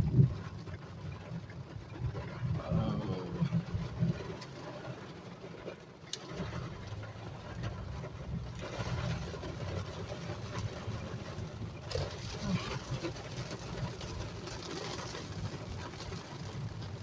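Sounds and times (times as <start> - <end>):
rain hissing on car: 0.0 - 17.0
road and engine rumble: 0.0 - 17.0.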